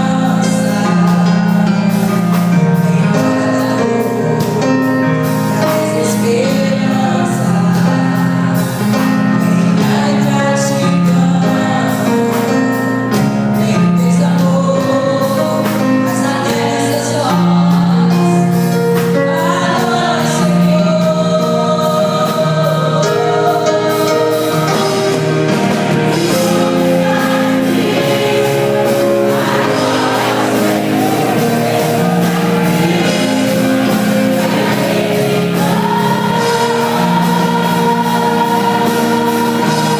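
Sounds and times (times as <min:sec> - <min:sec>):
gospel choir singing held notes: 0:00.0 - 0:13.5, 0:14.1 - 0:39.9
instrumental backing music: 0:00.0 - 0:39.9.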